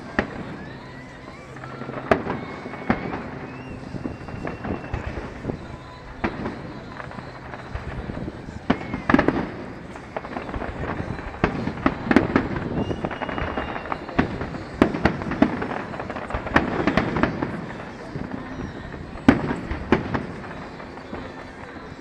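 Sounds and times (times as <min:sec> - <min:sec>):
fireworks bangs and crackling: 0:00.0 - 0:22.0
murmur of crowd: 0:00.0 - 0:22.0.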